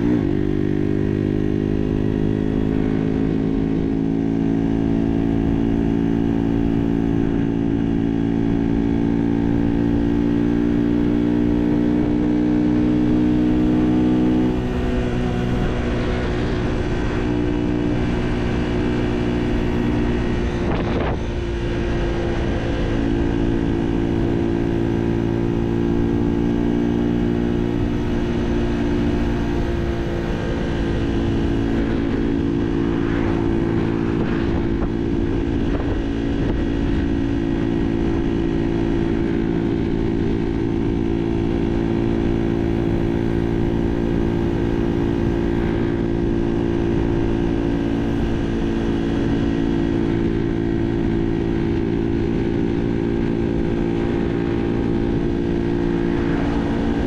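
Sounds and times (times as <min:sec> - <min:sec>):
moped engine running: 0:06.6 - 0:57.0.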